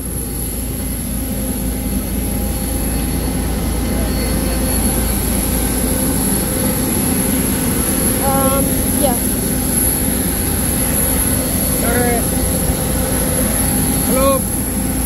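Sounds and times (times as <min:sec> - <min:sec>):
high engine whine: 0:00.0 - 0:15.0
jet engine rumble: 0:00.0 - 0:15.0.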